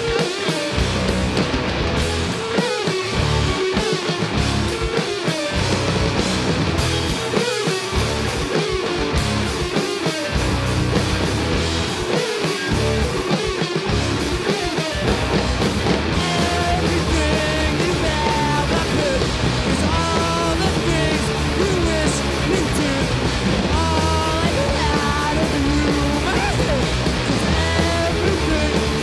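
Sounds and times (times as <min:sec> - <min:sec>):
drums: 0:00.0 - 0:29.0
electric bass: 0:00.0 - 0:29.0
electric guitars: 0:00.0 - 0:29.0.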